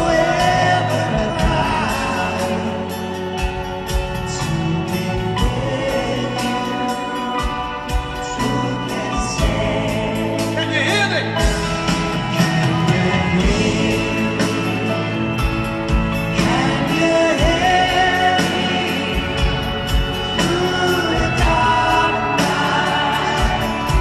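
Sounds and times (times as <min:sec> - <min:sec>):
person singing: 0:00.0 - 0:24.0
rock ballad sustained chords: 0:00.0 - 0:24.0
slow steady drum beat: 0:00.0 - 0:24.0.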